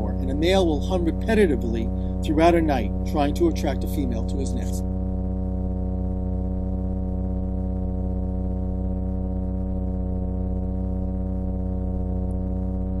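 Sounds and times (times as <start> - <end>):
fish humming low drone: 0.0 - 13.0.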